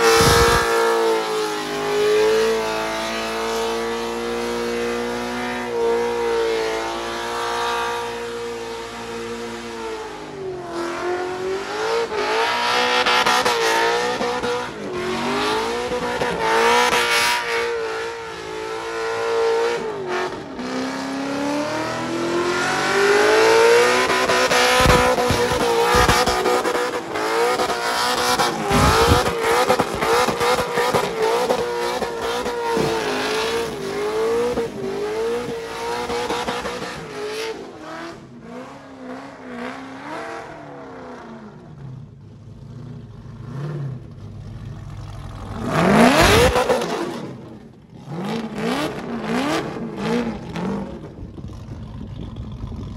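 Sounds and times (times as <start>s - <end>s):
engine revving at high revs: 0.0s - 9.4s, 10.8s - 40.4s, 45.6s - 47.3s, 48.1s - 50.8s.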